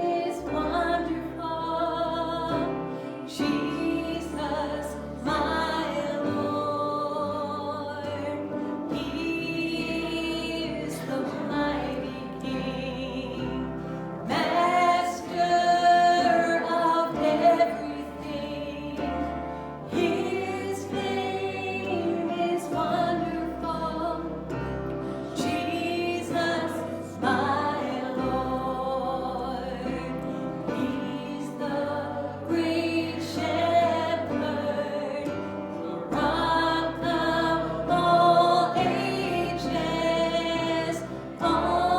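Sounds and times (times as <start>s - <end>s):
voices singing worship music: 0.0s - 41.9s.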